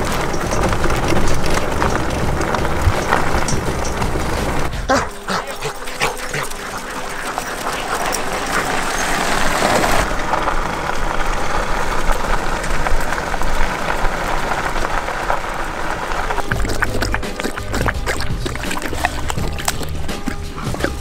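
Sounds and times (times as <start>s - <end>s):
dog paws running on gravel: 0.0s - 21.0s
gravel crunching under wheels: 0.0s - 21.0s.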